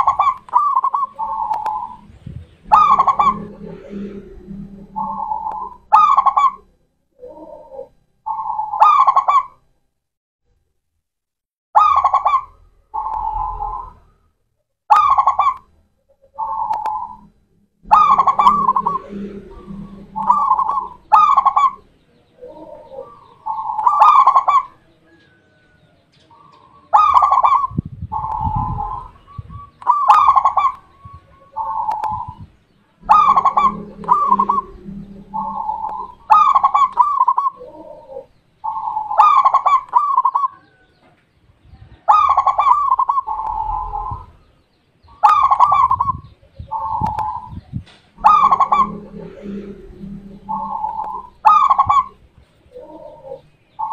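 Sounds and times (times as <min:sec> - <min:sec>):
dove cooing: 0:00.0 - 0:06.6, 0:07.2 - 0:09.5, 0:16.4 - 0:25.5, 0:26.3 - 0:40.8, 0:42.1 - 0:44.4, 0:45.2 - 0:53.9.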